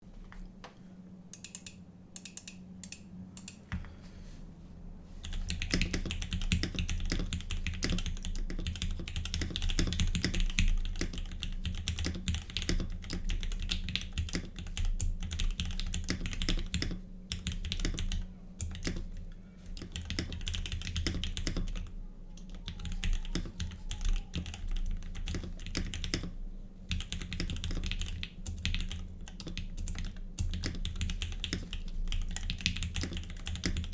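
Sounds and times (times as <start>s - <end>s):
typing on mechanical keyboard: 5.2s - 19.2s, 19.8s - 33.9s.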